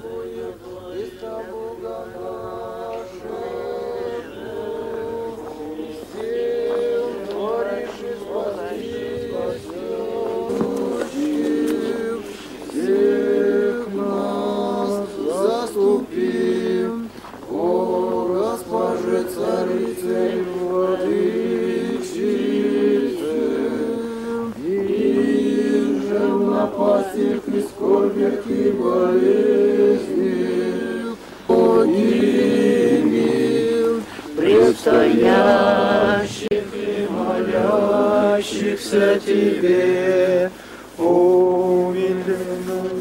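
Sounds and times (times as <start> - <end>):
voices singing unaccompanied: 0.0 - 43.0.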